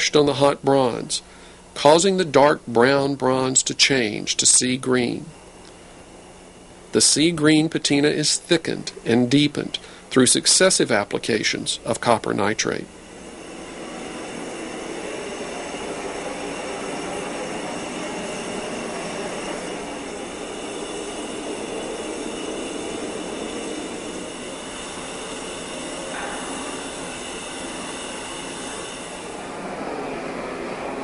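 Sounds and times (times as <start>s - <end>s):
gas torch hissing: 4.6s - 31.0s.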